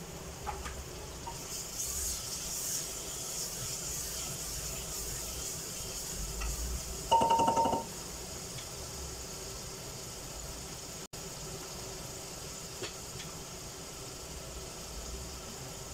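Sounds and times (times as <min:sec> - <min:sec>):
tomatoes sizzling in hot oil: 0:00.0 - 0:15.9.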